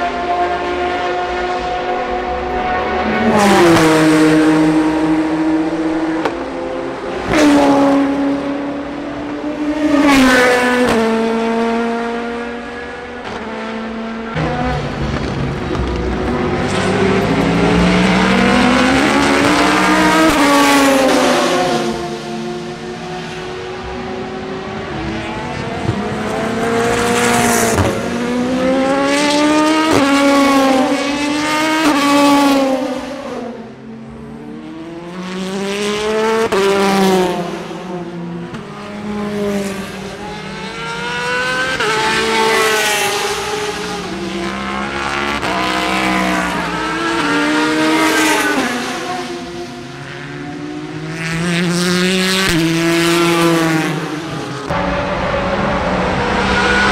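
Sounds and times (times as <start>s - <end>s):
race cars passing: 0.0s - 56.9s.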